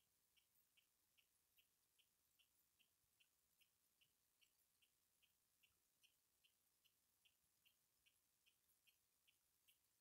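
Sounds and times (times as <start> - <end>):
faint regular ticking: 0.0 - 10.0.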